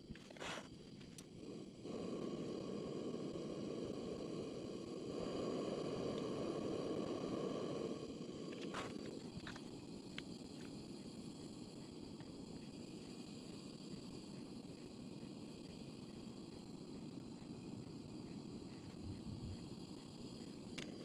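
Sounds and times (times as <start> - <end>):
blowtorch flame burning: 0.0 - 21.0.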